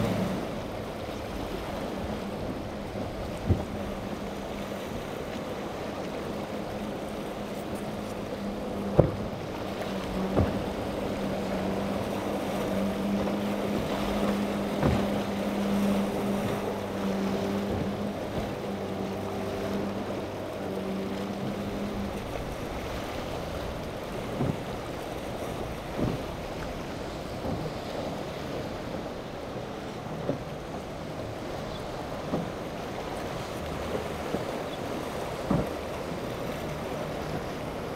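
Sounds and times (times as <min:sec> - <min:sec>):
breaking waves: 0:00.0 - 0:37.9
hull slamming on waves: 0:00.0 - 0:37.9
motorboat engine running: 0:00.0 - 0:37.9
wind: 0:00.0 - 0:37.9.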